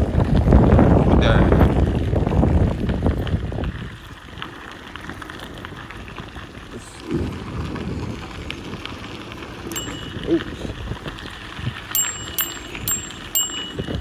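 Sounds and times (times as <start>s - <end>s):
bicycle tyres crunching on gravel: 0.0s - 14.0s
wind rumbling on microphone: 0.0s - 14.0s.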